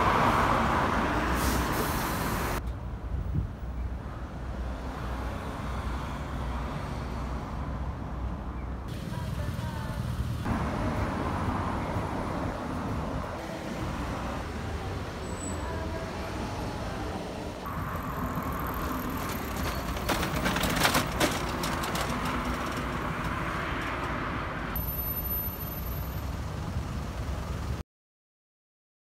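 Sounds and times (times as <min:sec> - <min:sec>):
traffic rumble: 0:00.0 - 0:27.8.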